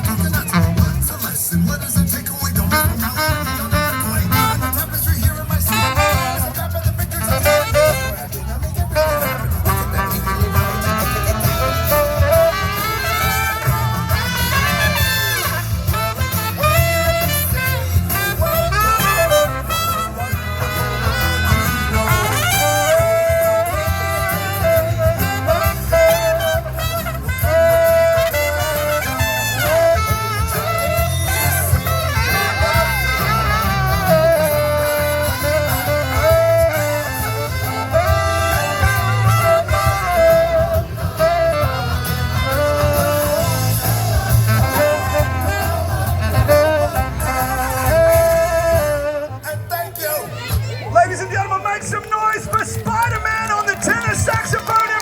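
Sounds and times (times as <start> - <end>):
music with low bass: 0.0 - 50.6.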